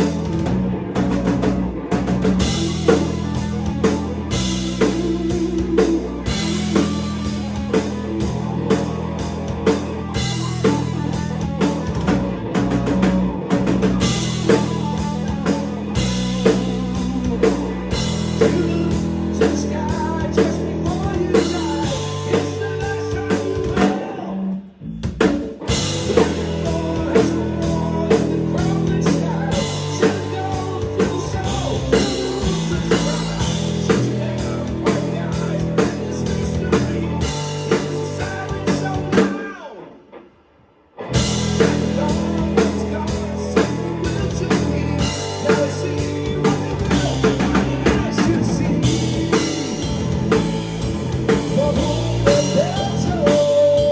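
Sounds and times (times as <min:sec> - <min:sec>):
live rock band playing: 0:00.0 - 0:40.3, 0:41.0 - 0:53.9.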